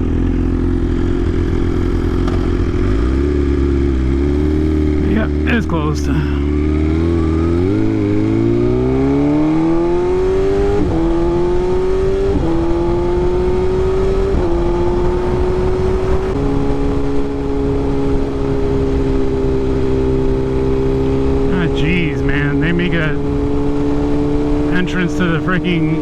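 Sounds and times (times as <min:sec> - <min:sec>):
motorcycle engine accelerating: 0:00.0 - 0:26.0
wind and road noise: 0:00.0 - 0:26.0.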